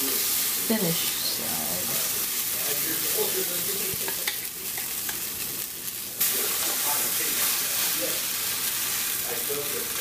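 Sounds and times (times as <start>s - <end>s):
batter sizzling in hot fat: 0.0s - 10.0s.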